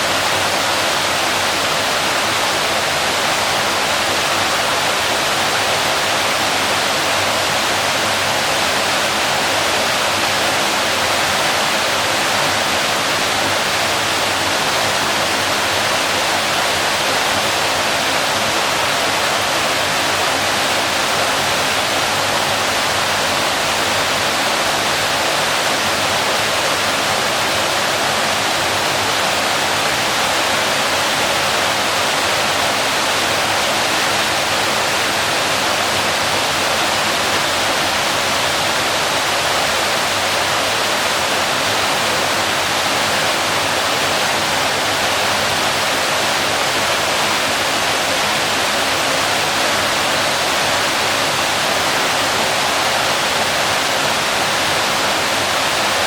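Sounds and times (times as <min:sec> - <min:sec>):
waterfall splashing: 0:00.0 - 0:56.0.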